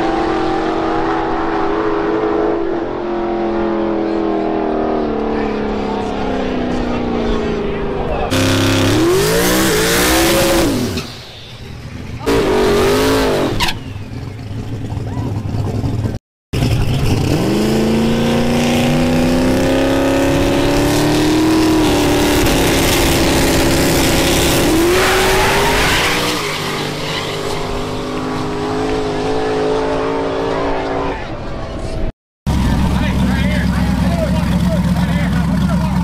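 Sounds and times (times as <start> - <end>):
car accelerating hard: 0.0 - 11.1, 15.0 - 36.0
car engines revving in blips: 0.0 - 36.0.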